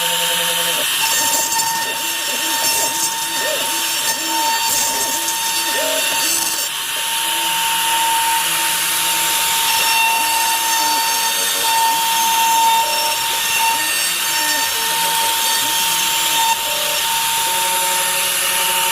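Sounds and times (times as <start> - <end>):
router spindle whine: 0.0 - 18.9.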